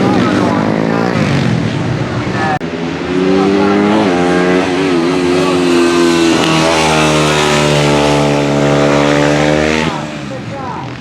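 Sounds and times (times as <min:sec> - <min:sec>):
motorcycle engine at high revs: 0:00.0 - 0:11.0.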